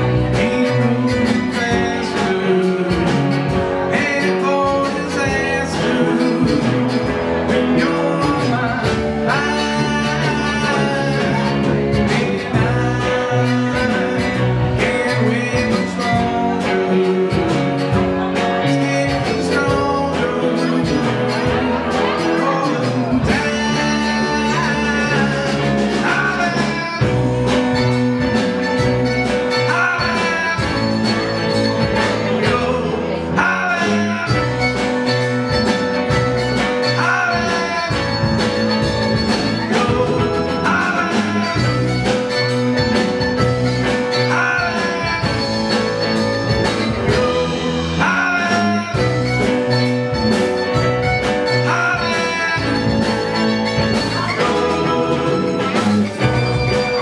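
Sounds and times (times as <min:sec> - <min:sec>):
drum kit beat: 0:00.0 - 0:57.0
electric bass: 0:00.0 - 0:57.0
electric guitar: 0:00.0 - 0:57.0
man singing: 0:00.0 - 0:57.0
mandolin: 0:00.0 - 0:57.0.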